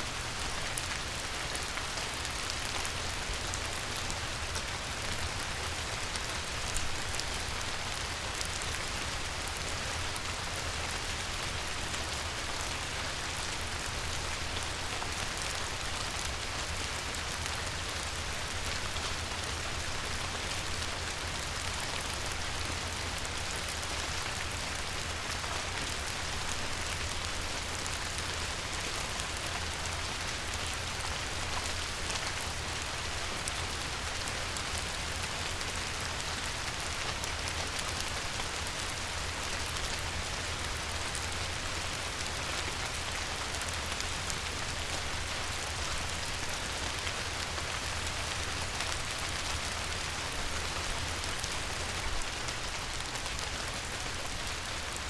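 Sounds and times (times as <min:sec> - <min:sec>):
rain pattering on water: 0:00.0 - 0:55.0.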